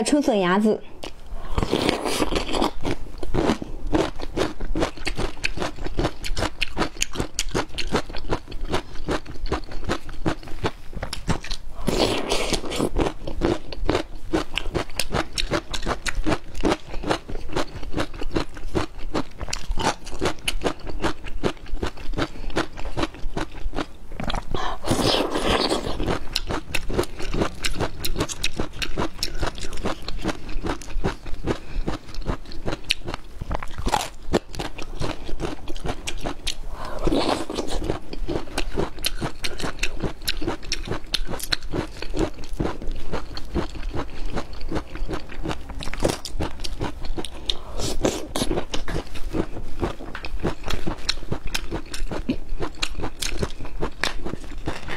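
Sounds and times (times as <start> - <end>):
crunching and chewing: 1.0 - 54.9.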